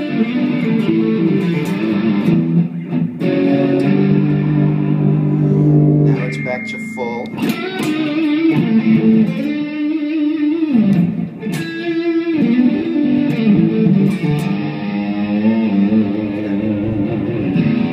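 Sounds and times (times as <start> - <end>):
electric guitar chords: 0.0 - 17.9.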